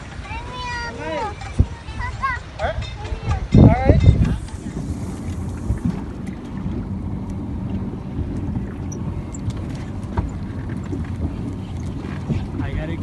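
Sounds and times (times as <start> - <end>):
small boat engine rumble: 0.0 - 13.0.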